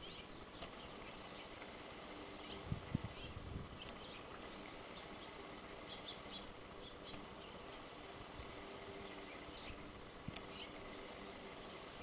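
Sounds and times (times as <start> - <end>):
faint bird chirps: 0.0 - 1.6, 2.3 - 8.0, 8.8 - 12.0
low outdoor hiss: 0.0 - 12.0.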